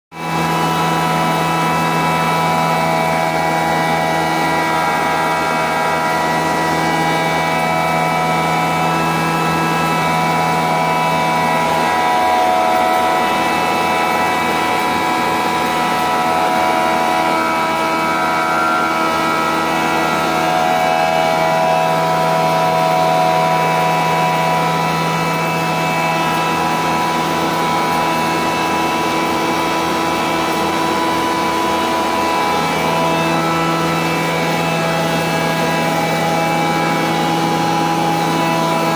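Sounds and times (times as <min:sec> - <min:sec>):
mill machine hum: 0:00.2 - 0:38.9
steady whining tones: 0:00.2 - 0:38.9.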